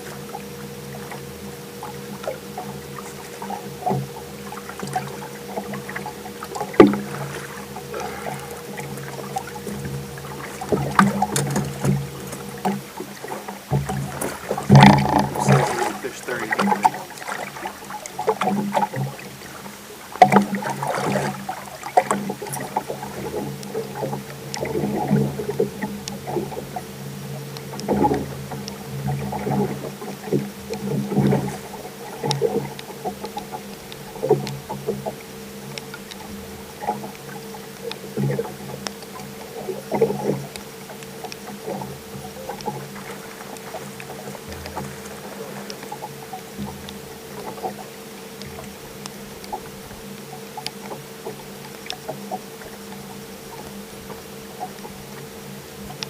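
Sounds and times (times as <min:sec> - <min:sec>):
boat motor hum: 0:00.0 - 0:56.0
water splashing against hull: 0:00.0 - 0:56.0.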